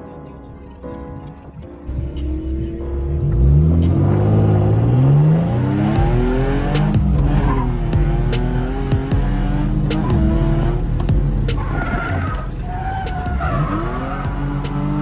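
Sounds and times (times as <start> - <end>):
car engine revving: 1.9 - 15.0.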